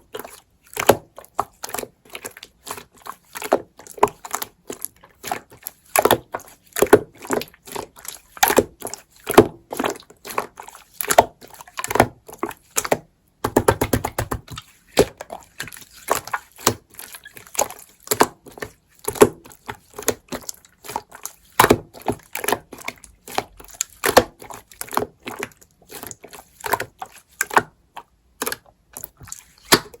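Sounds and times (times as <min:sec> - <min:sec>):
slime squelching and popping: 0:00.0 - 0:30.0.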